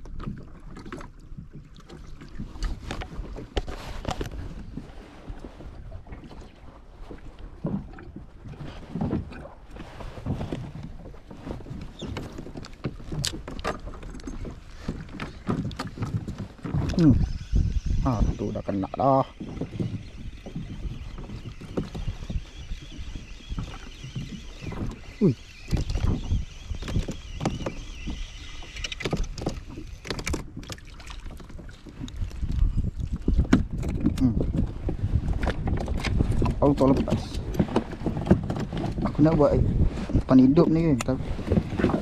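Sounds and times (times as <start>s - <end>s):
reel and rod clicks and knocks: 0.0s - 5.5s, 7.1s - 39.6s, 40.2s - 42.0s
waves lapping against hull: 0.0s - 42.0s
wind on microphone: 1.4s - 42.0s.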